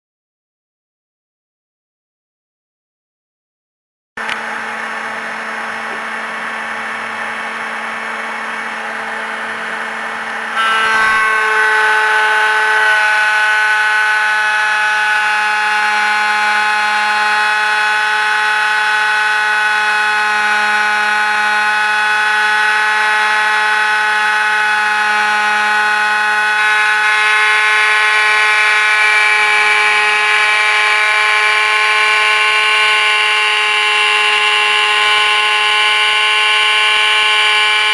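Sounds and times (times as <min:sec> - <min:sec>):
high-speed spindle whining: 0:04.2 - 0:37.9.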